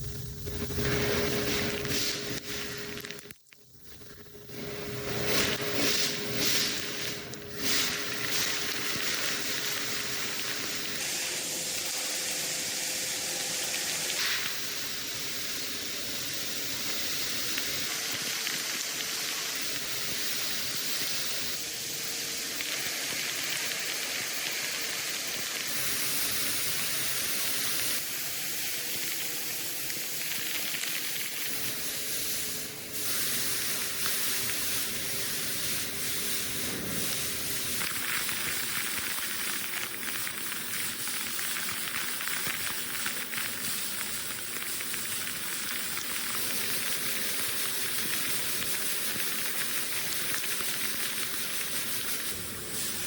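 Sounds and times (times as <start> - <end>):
power tool hissing: 0.0 - 3.3, 4.1 - 53.0.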